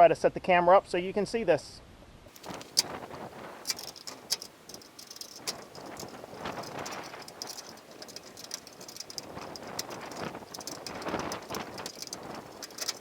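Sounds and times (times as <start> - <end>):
rustling: 2.3 - 13.0.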